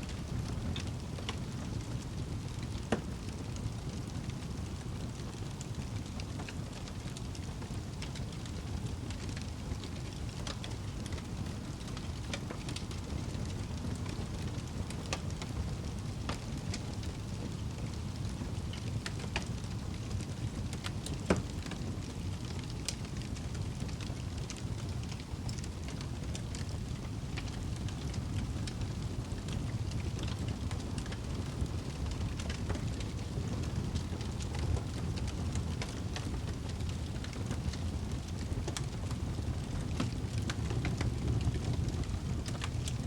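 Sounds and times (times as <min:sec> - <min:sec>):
fire flames rumbling: 0:00.0 - 0:43.0
logs crackling and popping: 0:00.0 - 0:43.0.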